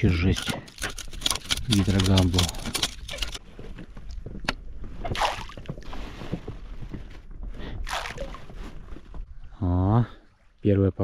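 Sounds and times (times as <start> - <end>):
oars splashing through water: 0.0 - 10.6.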